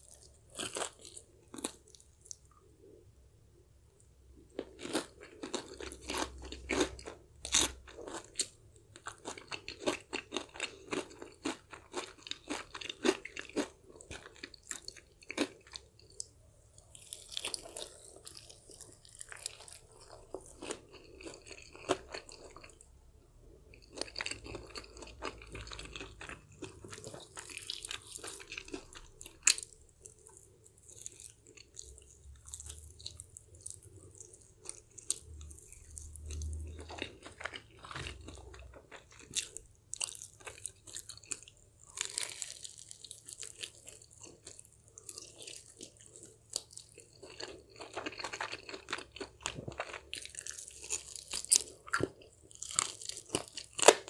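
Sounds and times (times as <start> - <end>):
crunchy fried chicken chewing: 0.0 - 2.6, 4.5 - 22.8, 23.7 - 54.0.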